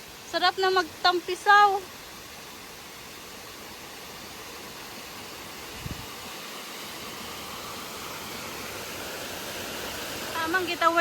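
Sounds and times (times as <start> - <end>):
mountain stream rushing: 0.0 - 11.0
small waterfalls: 0.0 - 11.0.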